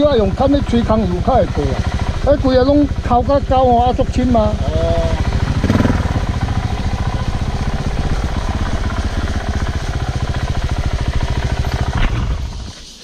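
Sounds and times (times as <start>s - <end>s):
off-road motorcycle engine running: 0.0s - 13.0s.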